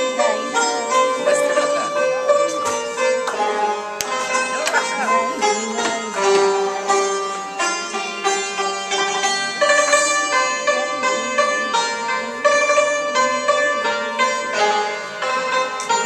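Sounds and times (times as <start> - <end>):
hammered dulcimer playing: 0.0 - 16.0.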